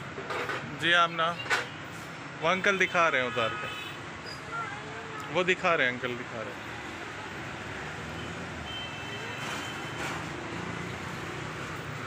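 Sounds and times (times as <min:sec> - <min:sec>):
busy shop background noise: 0:00.0 - 0:12.0.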